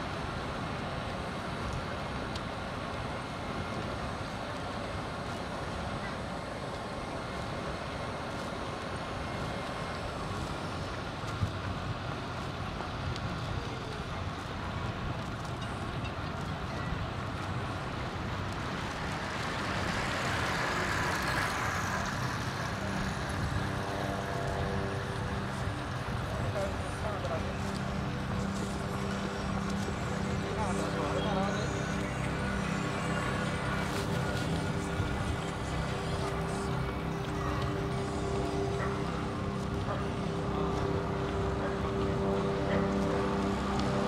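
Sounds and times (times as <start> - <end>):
city traffic noise: 0.0 - 44.0.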